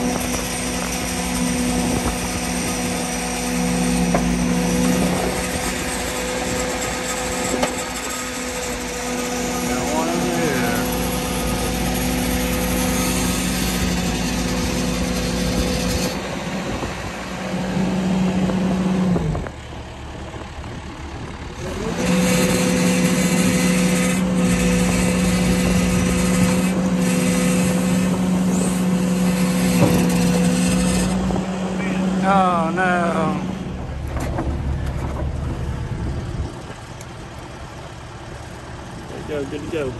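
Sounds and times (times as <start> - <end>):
excavator engine and hydraulics hum: 0.0 - 39.9.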